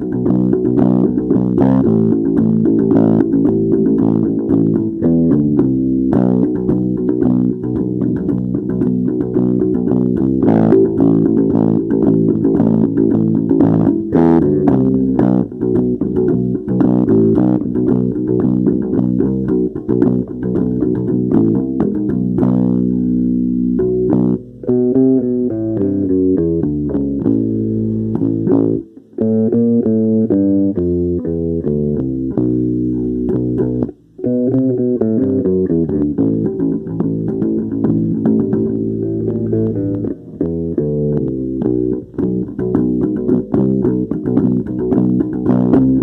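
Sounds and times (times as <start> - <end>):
plucked bass and guitar music: 0.0 - 46.0.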